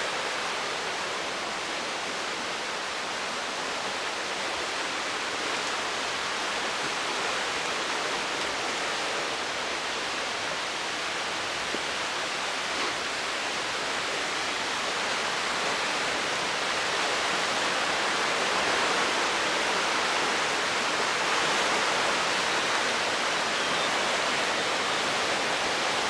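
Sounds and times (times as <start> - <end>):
stream rushing water: 0.0 - 26.0.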